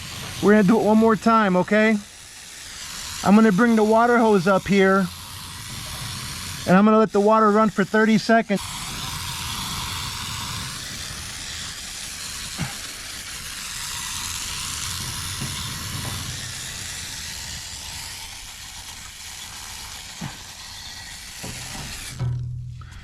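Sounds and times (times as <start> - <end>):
hose water spraying on coil: 0.0 - 22.5.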